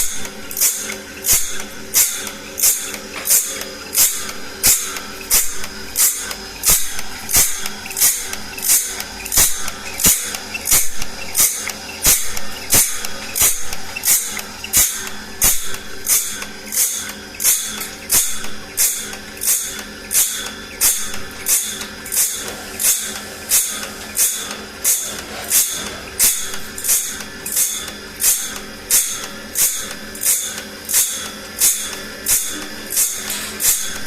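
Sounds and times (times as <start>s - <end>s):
saw blade being sharpened: 0.0s - 34.0s.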